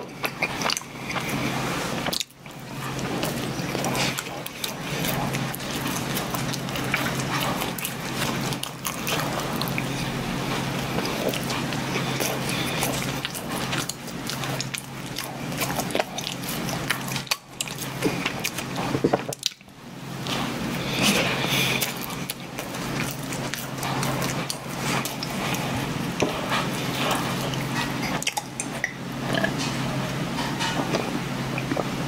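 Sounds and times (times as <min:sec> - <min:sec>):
chewing and mouth smacking: 0:00.0 - 0:32.0
steady low hum: 0:00.0 - 0:32.0.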